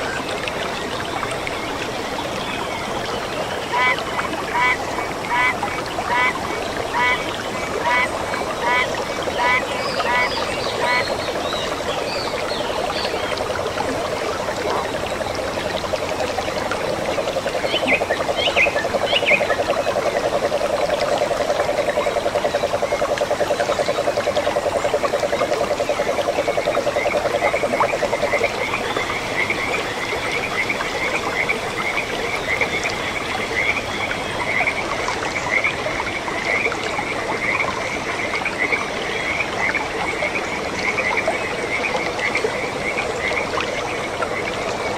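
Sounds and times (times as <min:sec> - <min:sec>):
frogs chorus of short calls: 0:03.5 - 0:44.9.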